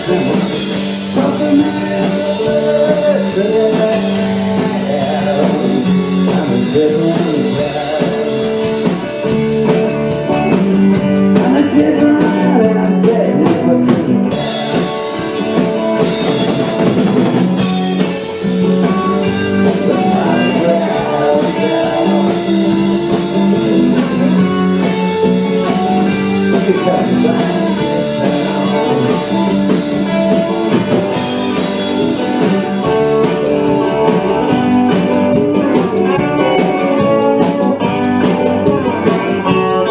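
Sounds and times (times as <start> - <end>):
drum kit beat: 0.0 - 39.9
electric guitar: 0.0 - 39.9
live blues-rock band: 0.0 - 39.9.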